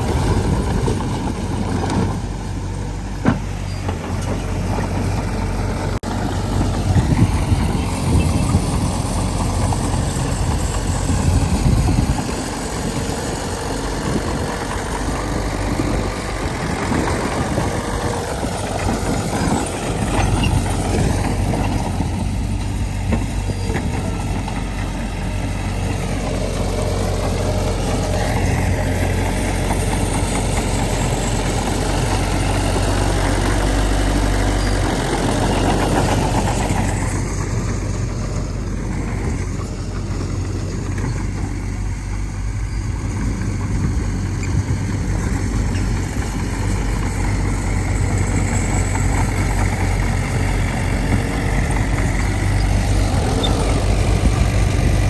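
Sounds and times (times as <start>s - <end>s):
diesel machinery engine humming: 0.0s - 55.0s.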